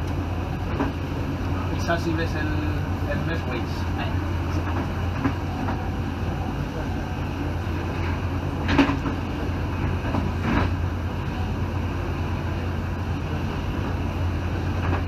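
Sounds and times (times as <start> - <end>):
train rumble from aboard: 0.0 - 15.0.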